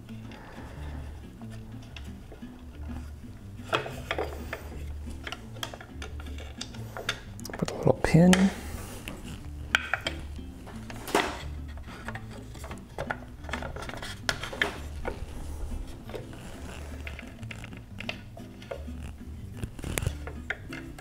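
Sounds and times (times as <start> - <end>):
background music with bass: 0.0 - 21.0
wooden toy parts clicking: 1.6 - 8.6, 9.7 - 21.0.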